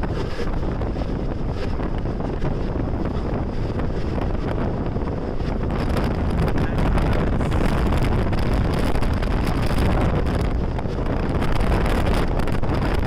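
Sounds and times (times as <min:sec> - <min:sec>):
train running rumble: 0:00.0 - 0:13.0
wind buffeting microphone: 0:00.0 - 0:13.0.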